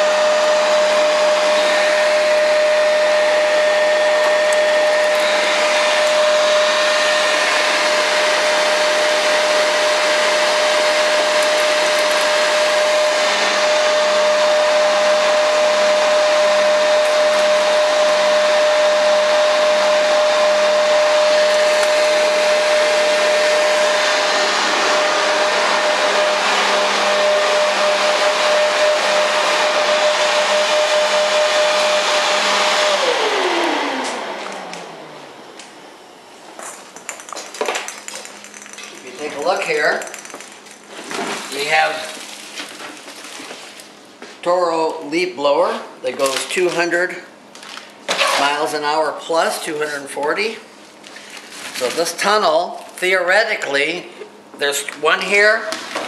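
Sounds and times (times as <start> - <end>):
leaf blower whining: 0.0 - 36.3, 38.4 - 56.0.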